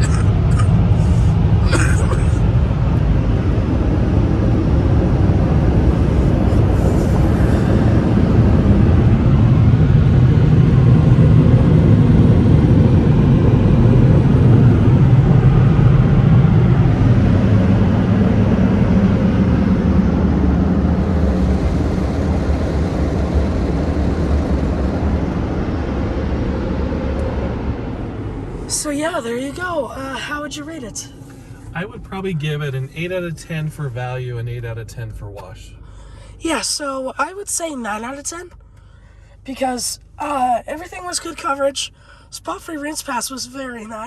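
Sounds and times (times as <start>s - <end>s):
car wash dryer blowing air: 0.0s - 35.5s.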